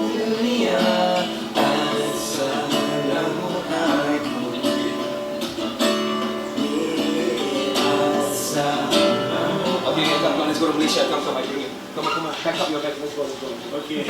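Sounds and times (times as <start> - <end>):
strummed acoustic guitar: 0.0 - 13.6.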